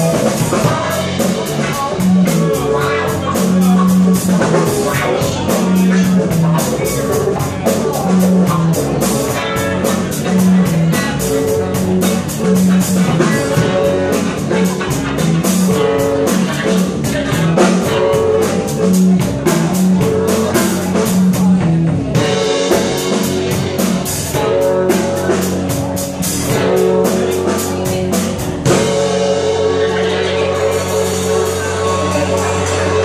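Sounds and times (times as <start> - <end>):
drum kit: 0.0 - 33.0
electric bass: 0.0 - 33.0
electric guitar: 0.0 - 33.0.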